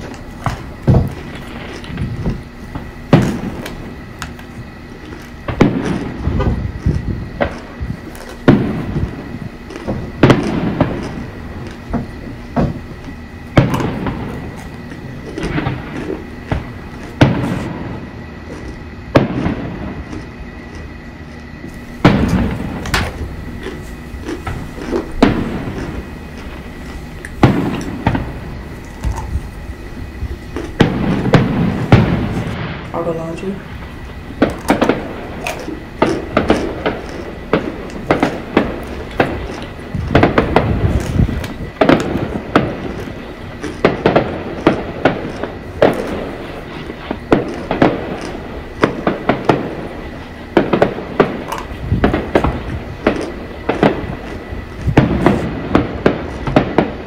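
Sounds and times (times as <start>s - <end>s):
fireworks booming: 0.0s - 57.0s.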